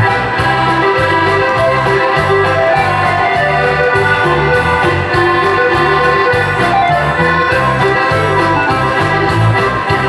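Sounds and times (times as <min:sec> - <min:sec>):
folk dance music on keyboard: 0:00.0 - 0:10.0.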